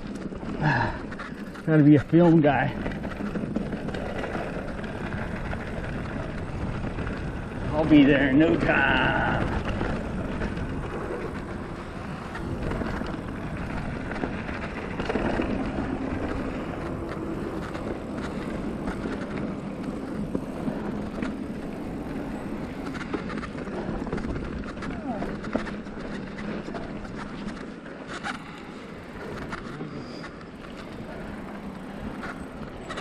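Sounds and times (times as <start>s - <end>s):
bike clicks and rattles: 0.0s - 33.0s
bike tyres rumbling on gravel: 0.0s - 33.0s.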